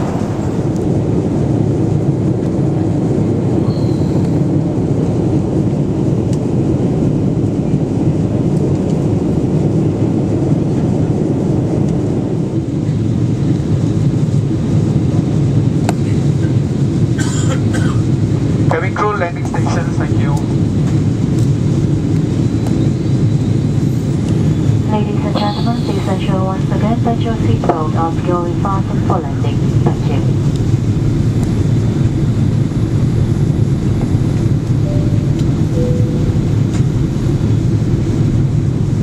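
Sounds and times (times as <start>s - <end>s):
airplane cabin airflow and engine noise: 0.0s - 39.0s.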